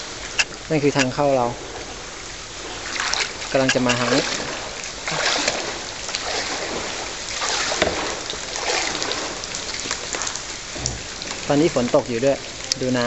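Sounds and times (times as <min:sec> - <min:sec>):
kayak paddles splashing: 0:00.0 - 0:13.0
light rain on water: 0:00.0 - 0:13.0.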